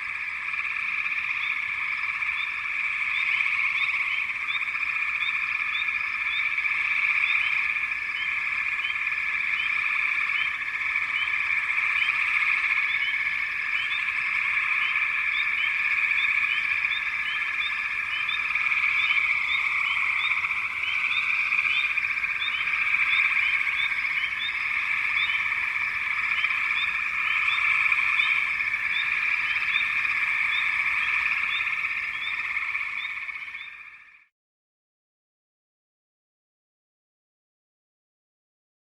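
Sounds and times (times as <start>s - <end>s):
frogs trilling: 0.0s - 34.3s
rising frog chirps: 0.0s - 34.3s.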